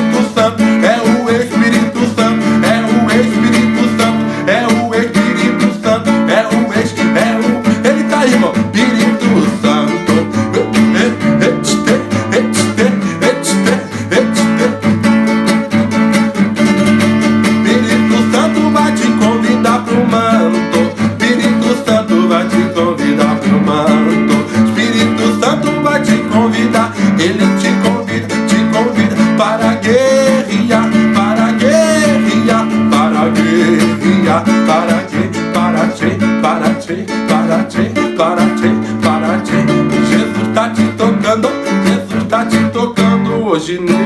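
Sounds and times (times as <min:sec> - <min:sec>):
acoustic guitar strumming fast: 0:00.0 - 0:44.0.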